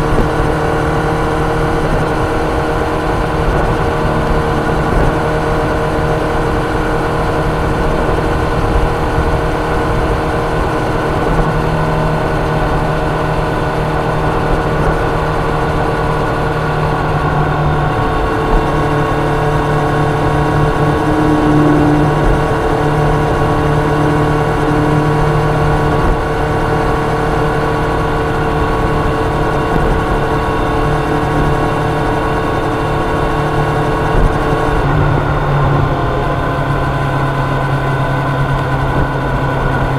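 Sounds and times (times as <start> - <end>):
motorcycle engine cruising: 0.0 - 39.9
rush of noise: 0.0 - 39.9.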